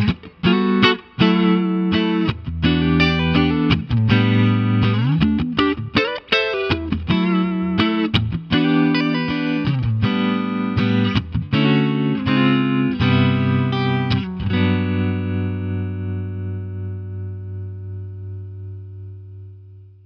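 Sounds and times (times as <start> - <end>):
clean electric guitar chords: 0.0 - 20.0.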